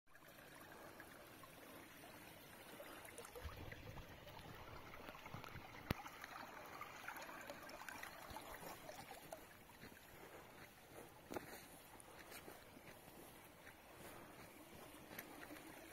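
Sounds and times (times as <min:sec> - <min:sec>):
water flowing in a channel: 0:00.1 - 0:15.9.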